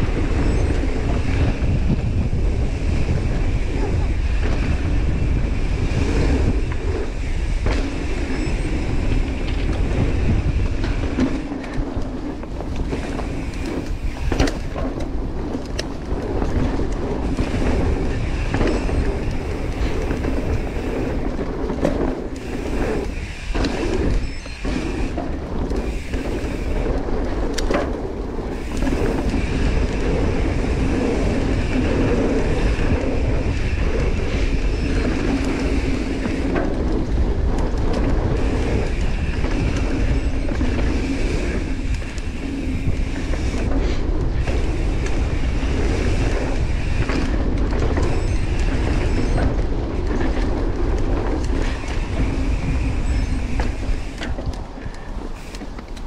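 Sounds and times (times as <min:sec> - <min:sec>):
bike tyre rumble and rattling: 0:00.0 - 0:56.0
wind buffeting microphone: 0:00.0 - 0:56.0.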